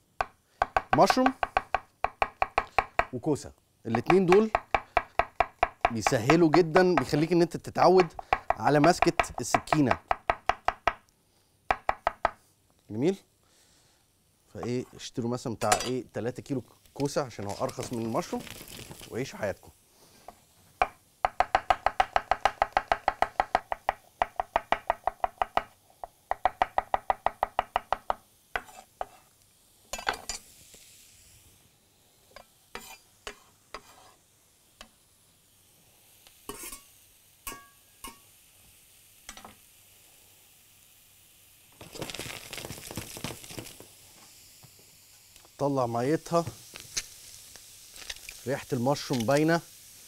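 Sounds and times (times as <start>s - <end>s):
mushrooms sizzling in pan: 0.0s - 11.1s, 14.3s - 50.0s.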